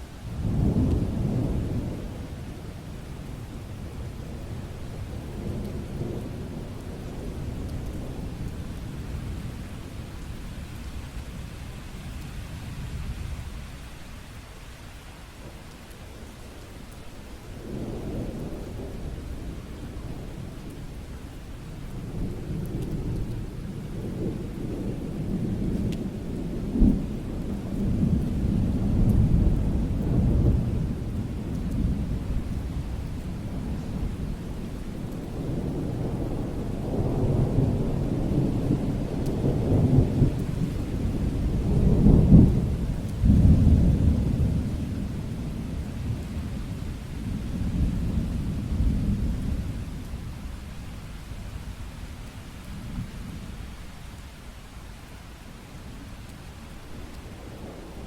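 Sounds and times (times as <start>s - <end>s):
thunder rumbling: 0.0s - 11.8s, 17.5s - 54.0s, 56.7s - 58.0s
steady rain: 0.0s - 58.0s.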